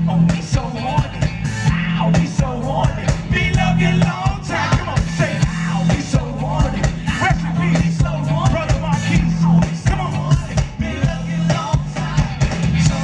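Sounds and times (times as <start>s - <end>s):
bass line: 0.0s - 13.0s
electric guitars: 0.0s - 13.0s.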